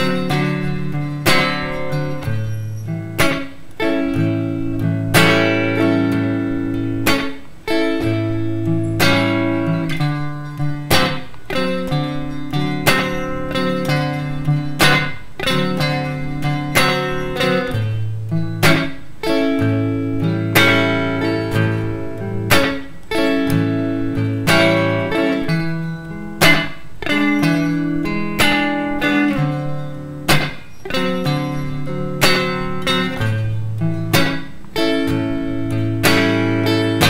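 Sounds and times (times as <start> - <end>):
blues guitar strumming: 0.0 - 37.0.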